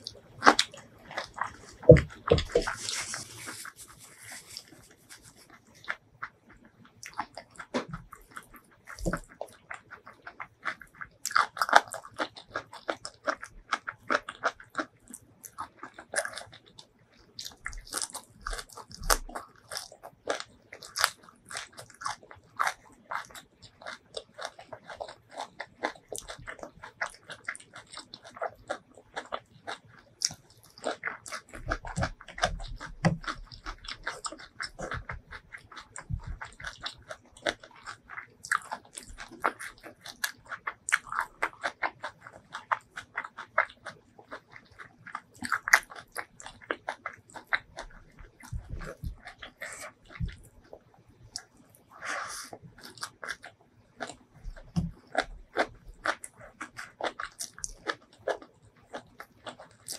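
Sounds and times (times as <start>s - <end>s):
chewing crunchy vegetables: 0.0s - 59.9s.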